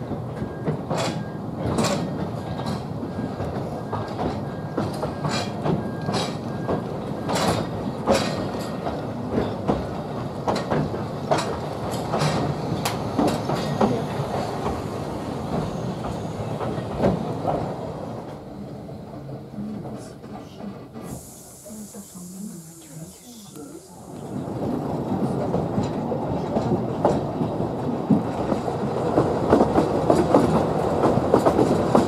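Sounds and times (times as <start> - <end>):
train wheels clattering on rail joints: 0.0 - 18.6, 23.9 - 32.0
train rumble: 0.0 - 32.0.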